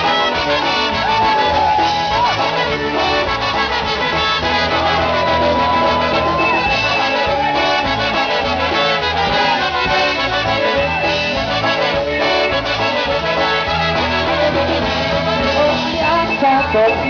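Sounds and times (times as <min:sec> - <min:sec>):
clarinet: 0:00.0 - 0:17.0
concertina melody: 0:00.0 - 0:17.0
drums keeping a steady beat: 0:00.0 - 0:17.0
trumpets: 0:00.0 - 0:17.0.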